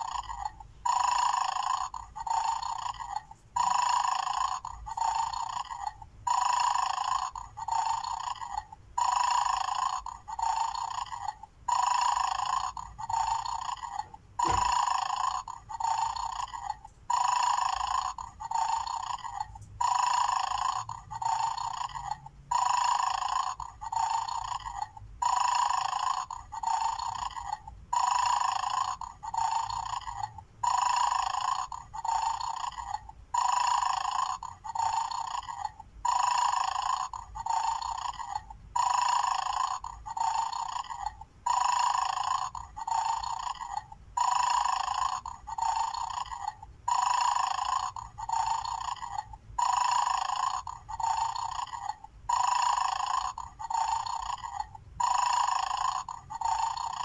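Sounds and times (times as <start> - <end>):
tinny toy dog snoring sound: 0.0 - 57.0.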